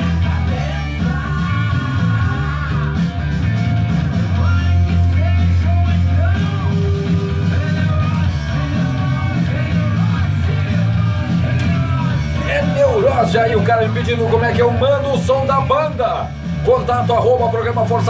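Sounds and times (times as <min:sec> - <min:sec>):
rock song with singing: 0:00.0 - 0:18.0.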